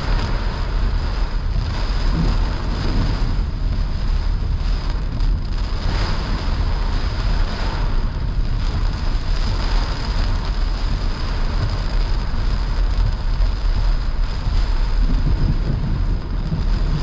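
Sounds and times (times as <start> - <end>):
car rumbling on wet road: 0.0 - 17.0
heavy rain on car roof: 0.0 - 17.0.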